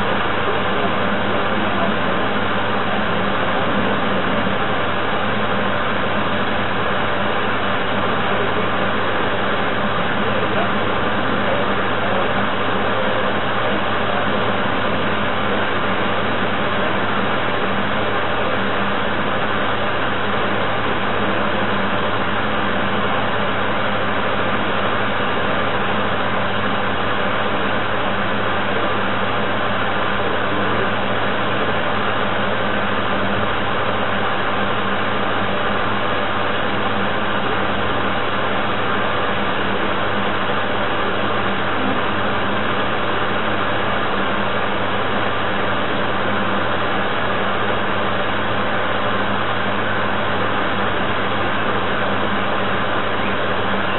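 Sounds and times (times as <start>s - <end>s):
electric motor hum and whine: 0.0s - 53.9s.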